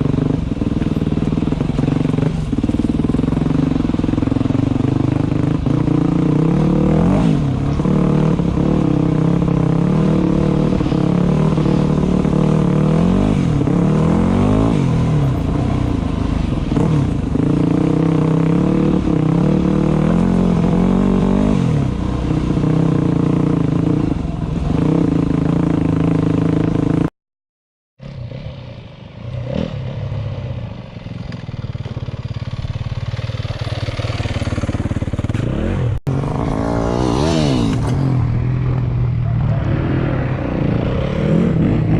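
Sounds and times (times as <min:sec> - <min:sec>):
dirt bike engine revving: 0:00.0 - 0:15.8, 0:16.4 - 0:27.1, 0:31.5 - 0:38.8, 0:39.4 - 0:41.9.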